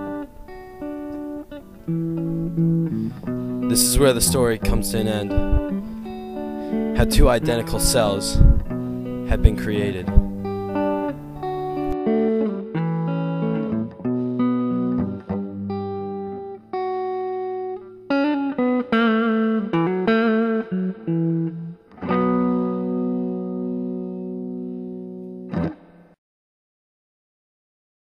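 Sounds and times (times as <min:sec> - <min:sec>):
instrumental guitar music: 0:00.0 - 0:26.2.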